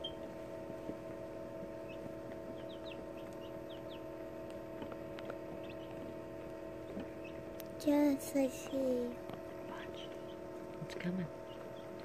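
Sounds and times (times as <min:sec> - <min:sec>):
chicks peeping: 0:00.0 - 0:00.4, 0:01.6 - 0:08.7, 0:09.6 - 0:12.0
steady hum: 0:00.0 - 0:12.0.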